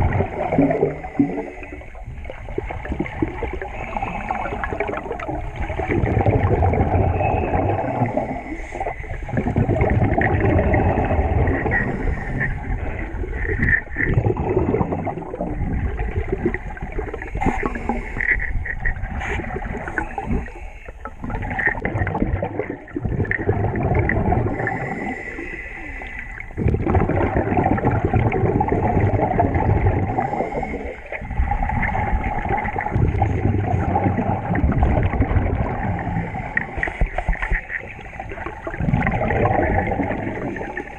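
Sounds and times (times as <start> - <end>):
underwater regulator bubbling: 0.0 - 40.9.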